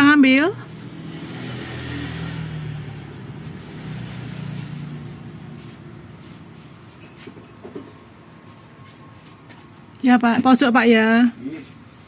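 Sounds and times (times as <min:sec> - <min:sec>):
vehicle engine humming: 0:00.0 - 0:11.9.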